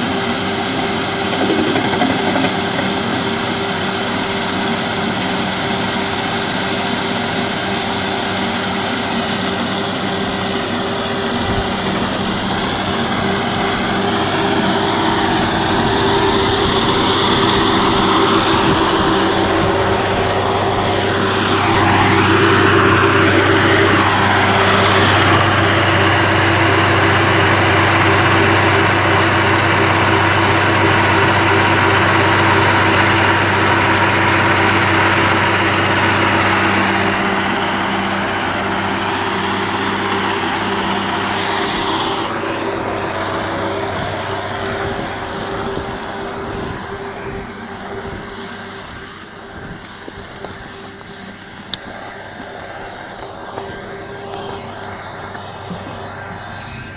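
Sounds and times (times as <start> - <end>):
large engine running: 0.0 - 56.9.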